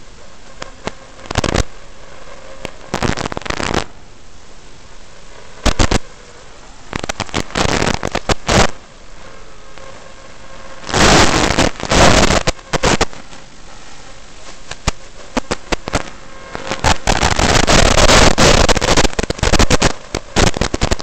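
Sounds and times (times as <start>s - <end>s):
crackling static bursts: 0.0s - 21.0s
radio receiver hiss: 0.0s - 21.0s.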